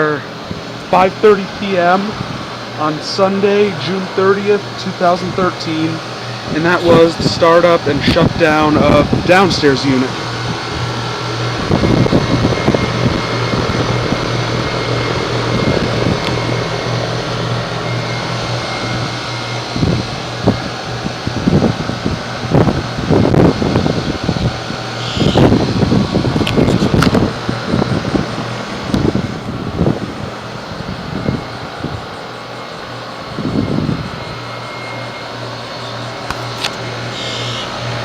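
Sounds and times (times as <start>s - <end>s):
low rumbling bursts: 0.0s - 37.0s
heat pump humming: 0.0s - 38.0s.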